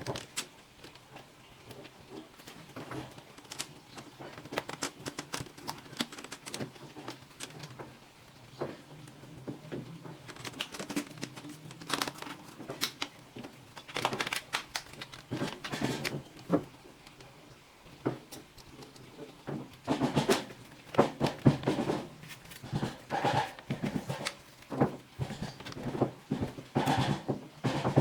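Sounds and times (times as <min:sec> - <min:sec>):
hard plastic clicks and crinkling: 0:00.0 - 0:28.0.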